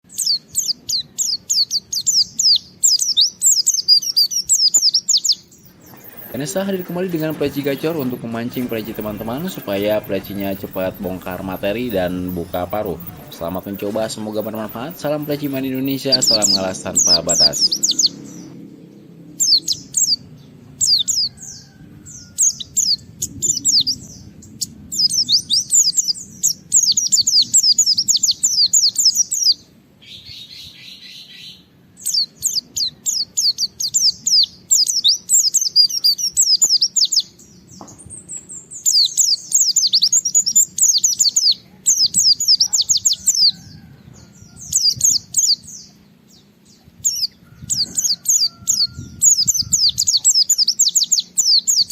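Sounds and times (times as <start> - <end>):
bird twittering: 0.0 - 18.6, 19.4 - 51.9
low steady background noise: 0.0 - 51.9.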